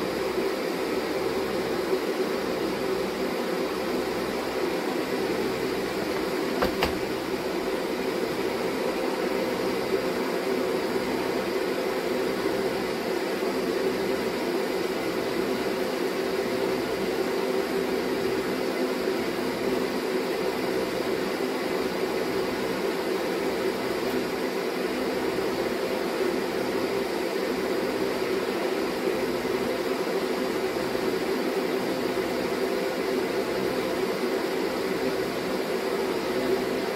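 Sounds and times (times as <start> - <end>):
steady machine hum: 0.0 - 36.9.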